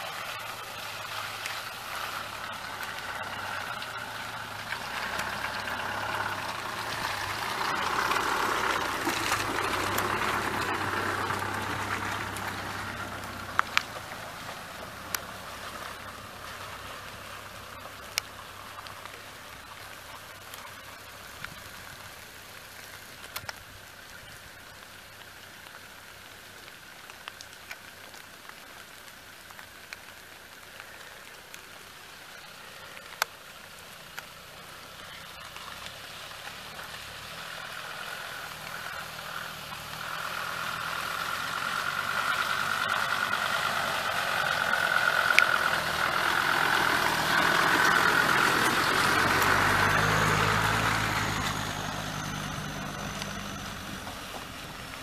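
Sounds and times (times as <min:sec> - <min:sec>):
car engine humming: 0:00.0 - 0:55.0
tyres swishing through mud: 0:00.0 - 0:55.0.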